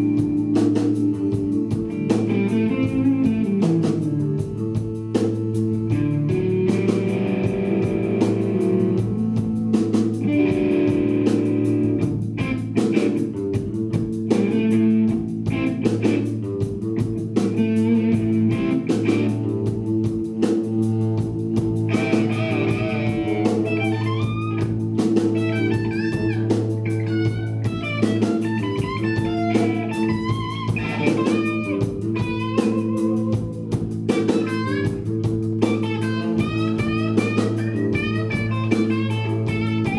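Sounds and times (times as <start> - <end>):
bass line: 0.0 - 39.9
drums: 0.0 - 39.9
lead electric guitar: 0.0 - 39.9.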